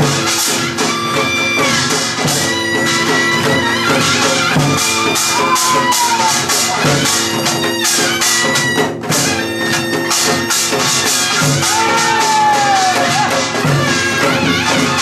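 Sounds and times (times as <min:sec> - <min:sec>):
drum strokes: 0:00.0 - 0:15.0
reedy wind instrument: 0:00.0 - 0:15.0.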